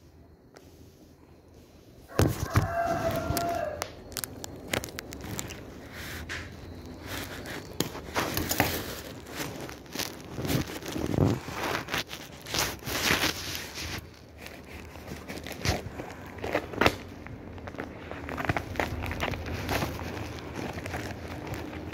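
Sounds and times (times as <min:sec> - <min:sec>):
plastic mailer crinkling and tearing: 0:02.1 - 0:21.9.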